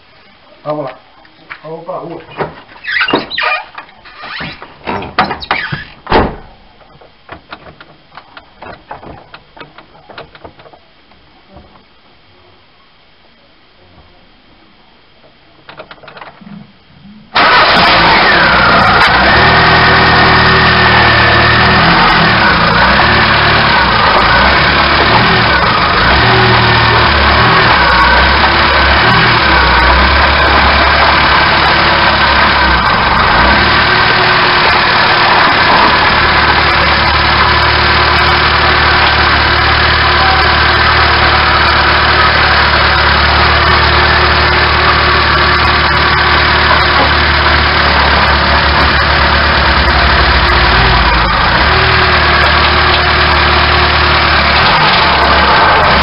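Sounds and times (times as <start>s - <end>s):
tyre and road rumble: 2.0s - 12.1s, 15.3s - 56.0s.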